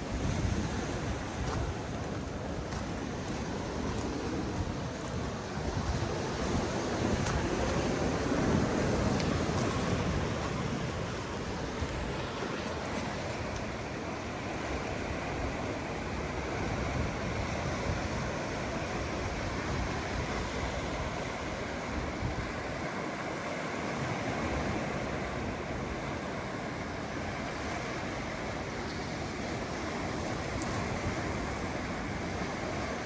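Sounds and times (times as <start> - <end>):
ocean surf washing onto beach: 0.0 - 33.0.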